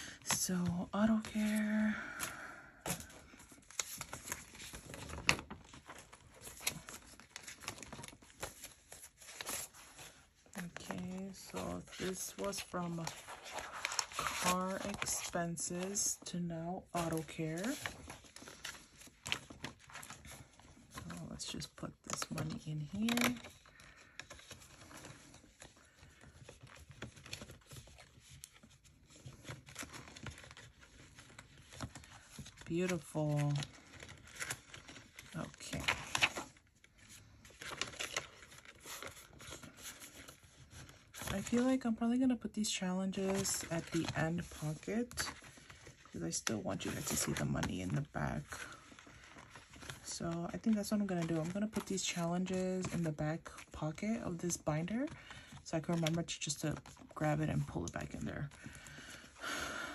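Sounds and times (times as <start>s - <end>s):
plastic crinkling rustle: 0.0s - 42.0s, 42.6s - 53.8s.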